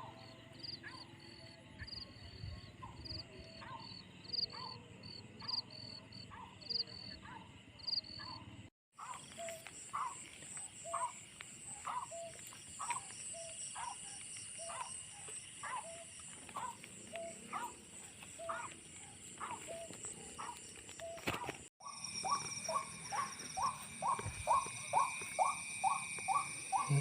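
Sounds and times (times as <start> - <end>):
night insects chorus: 0.0 - 27.0.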